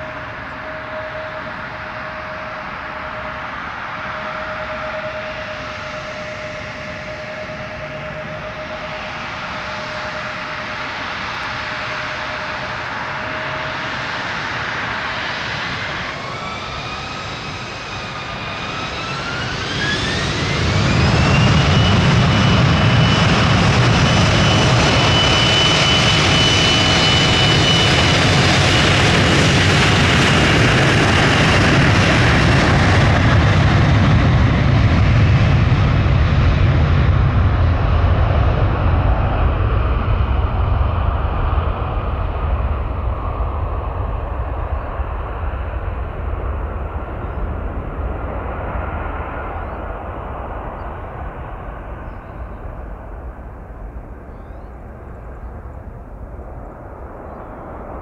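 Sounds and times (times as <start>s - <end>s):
jet engines roaring and whining: 0.0s - 58.0s.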